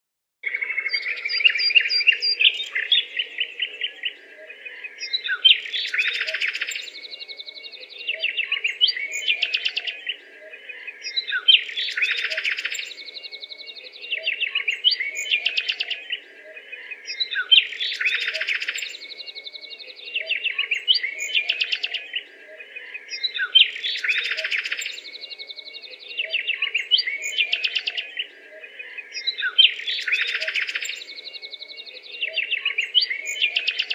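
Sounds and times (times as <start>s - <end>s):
birds chirping: 0.4s - 33.9s.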